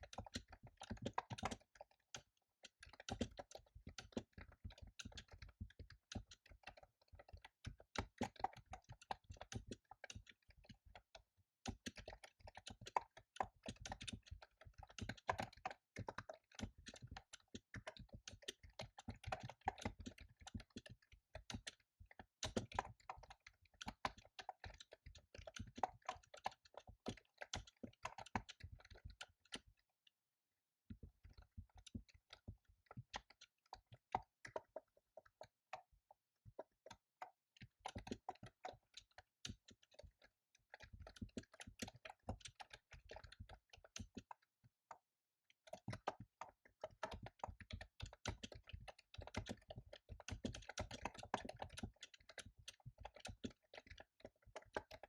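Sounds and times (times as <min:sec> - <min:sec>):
computer keyboard typing: 0:00.0 - 0:29.8, 0:30.9 - 0:55.0.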